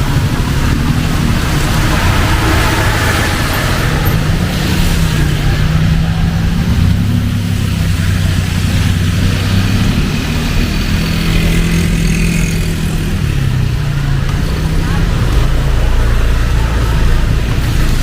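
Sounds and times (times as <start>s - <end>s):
heavy rain: 0.0s - 18.0s
vehicle engine running: 0.0s - 18.0s.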